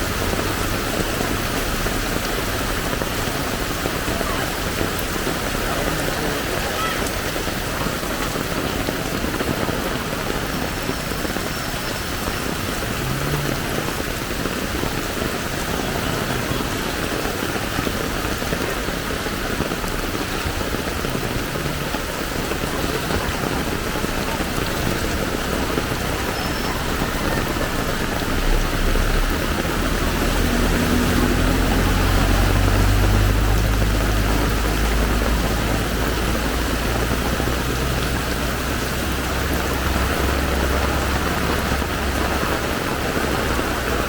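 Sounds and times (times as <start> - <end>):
heavy rain downpour: 0.0 - 44.0.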